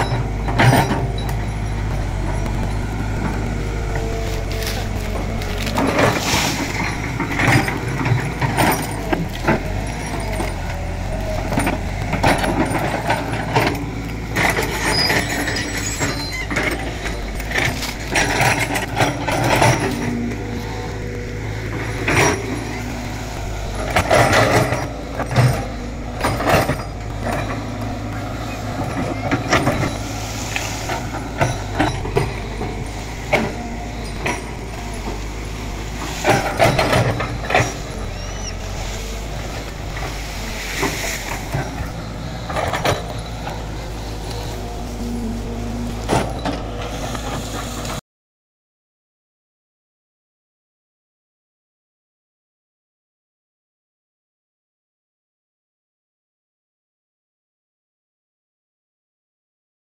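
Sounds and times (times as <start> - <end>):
diesel engine running: 0.0 - 48.0
excavator bucket digging and scraping: 0.0 - 48.0.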